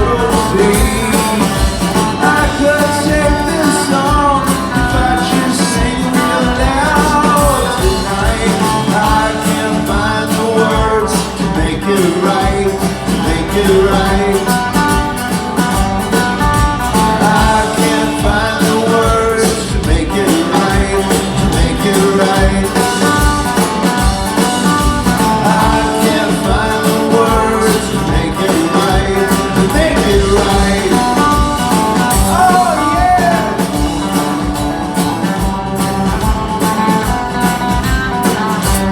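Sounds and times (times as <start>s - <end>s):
lead vocal singing: 0.0s - 15.2s, 16.8s - 34.0s
bass guitar: 0.0s - 38.9s
electric guitars: 0.0s - 38.9s
steady drum beat: 0.0s - 38.9s.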